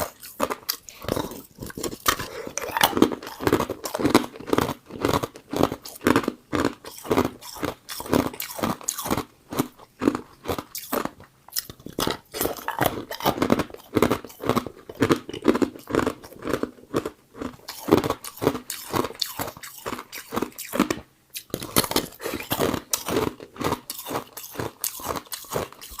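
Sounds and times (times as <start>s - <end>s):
person crunching ice: 0.0s - 20.8s.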